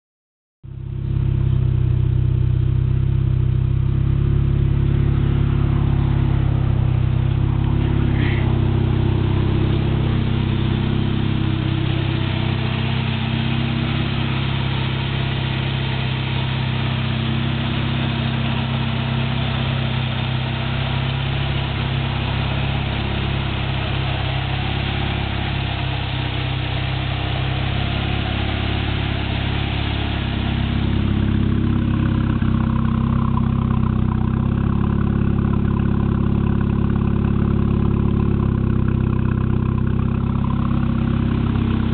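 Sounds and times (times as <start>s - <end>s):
car engine idling: 0.6s - 41.9s.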